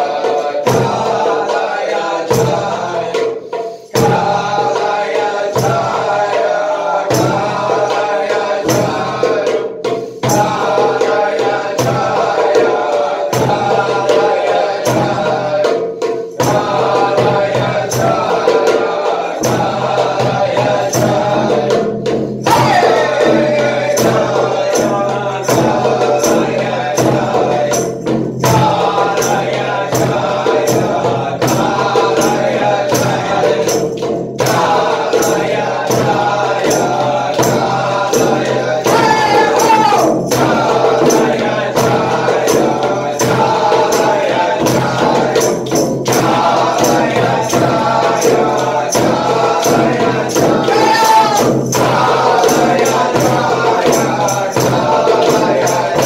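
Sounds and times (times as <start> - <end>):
group of voices chanting: 0.0 - 56.0
tambourine beat: 0.0 - 56.0.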